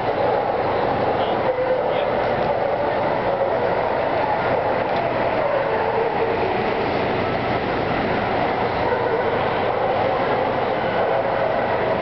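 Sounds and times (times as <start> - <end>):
exhibition hall din: 0.0 - 12.0.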